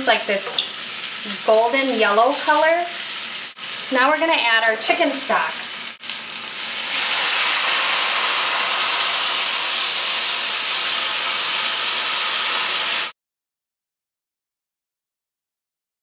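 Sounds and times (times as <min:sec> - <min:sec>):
stock sizzling in hot pan: 0:00.0 - 0:13.2.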